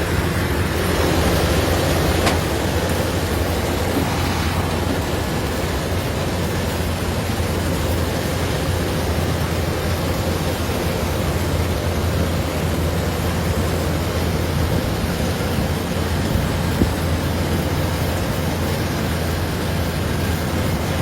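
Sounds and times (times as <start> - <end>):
low engine drone: 0.0 - 21.0
rushing machinery noise: 0.0 - 21.0.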